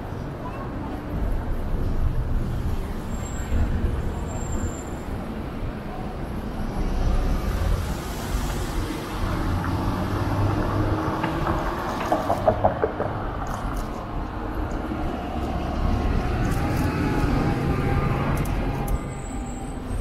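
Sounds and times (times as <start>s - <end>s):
passing vehicles rumble and hiss: 0.0s - 20.0s.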